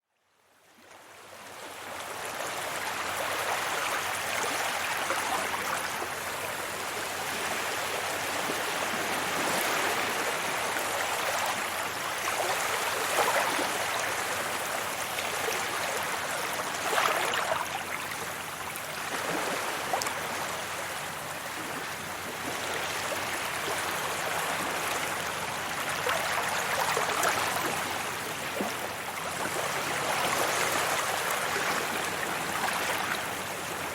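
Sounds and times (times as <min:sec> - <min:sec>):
sea waves breaking on beach: 0:01.5 - 0:33.9.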